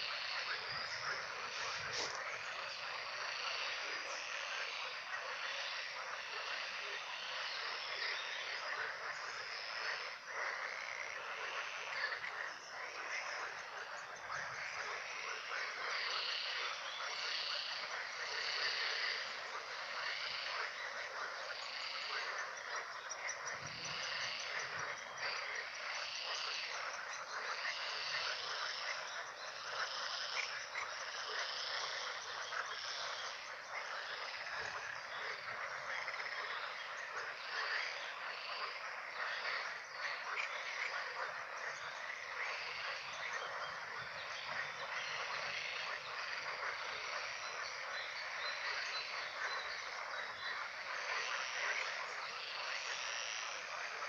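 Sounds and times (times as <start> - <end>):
frogs croaking in chorus: 0.0 - 54.0.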